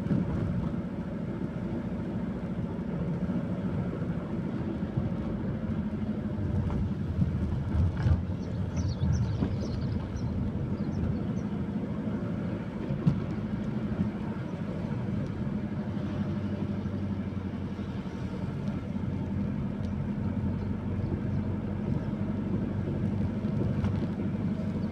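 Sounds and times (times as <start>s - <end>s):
engine droning: 0.0s - 24.9s.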